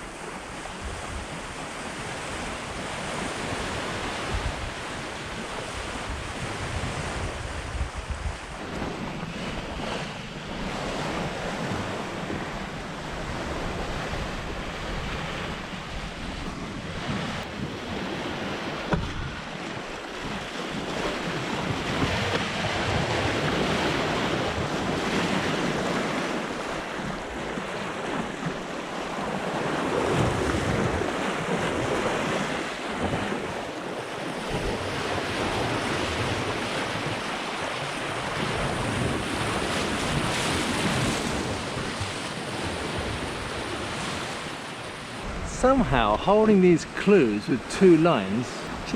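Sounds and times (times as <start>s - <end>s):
water rushing along boat hull: 0.0s - 48.9s
wind buffeting microphone: 0.0s - 48.9s.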